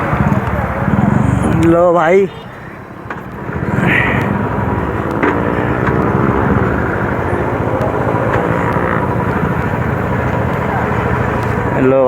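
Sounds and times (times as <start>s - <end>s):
motorcycles riding past: 0.0s - 12.0s
sharp engine cracks: 0.0s - 12.0s.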